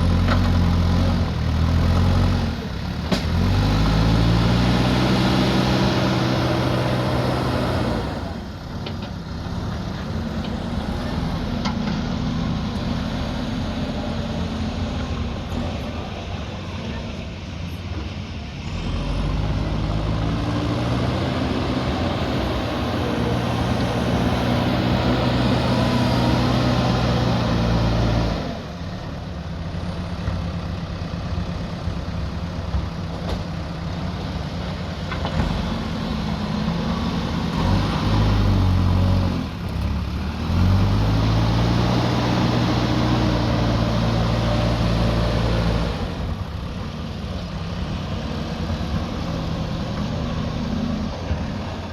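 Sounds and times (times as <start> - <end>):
diesel engine revving under load: 0.0 - 16.5, 18.5 - 29.0, 33.8 - 51.9.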